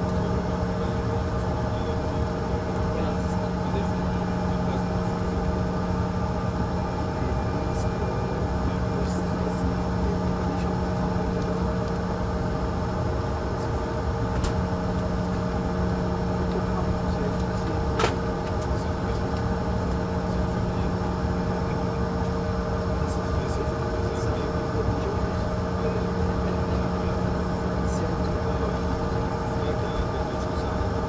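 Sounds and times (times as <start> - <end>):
jet engines droning: 0.0 - 31.0.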